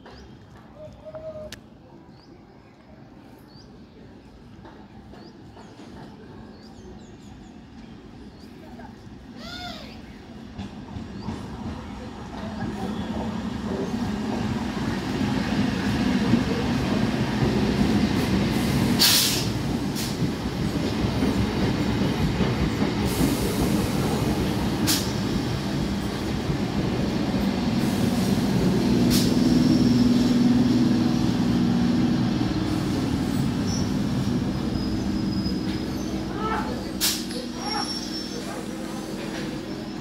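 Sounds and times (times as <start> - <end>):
train wheels rumbling on rails: 3.5 - 40.0.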